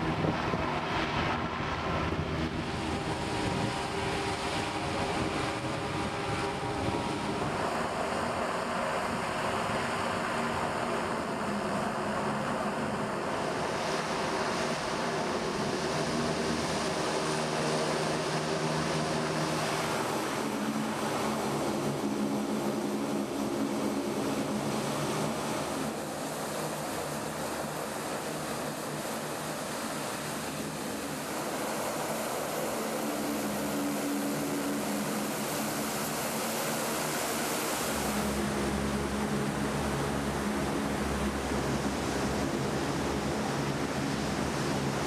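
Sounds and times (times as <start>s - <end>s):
hovercraft engine drone: 0.0s - 45.0s
rushing air and spray: 0.0s - 45.0s.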